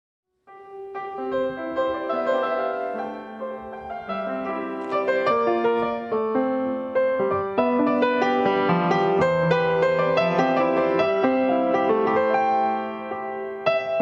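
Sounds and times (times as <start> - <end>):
piano music: 0.4 - 14.0.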